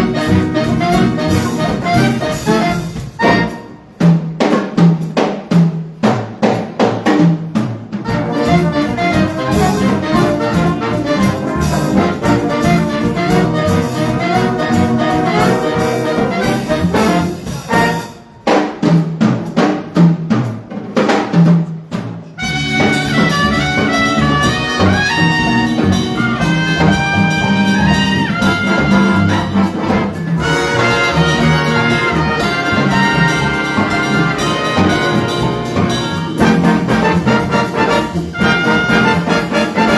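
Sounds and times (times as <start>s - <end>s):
trumpets and trombones: 0.0s - 4.8s, 8.0s - 18.6s, 22.4s - 39.9s
drums: 0.0s - 39.9s
jazz big band playing: 0.0s - 39.9s.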